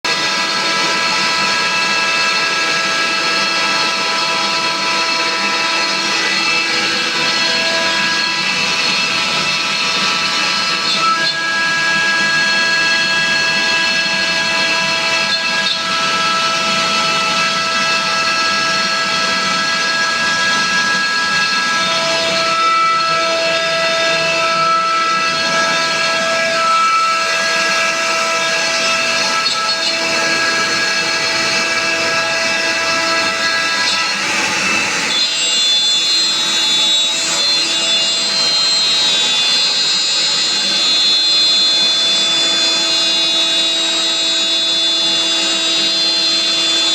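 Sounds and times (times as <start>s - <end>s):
router spindle running and cutting: 0.0s - 46.9s.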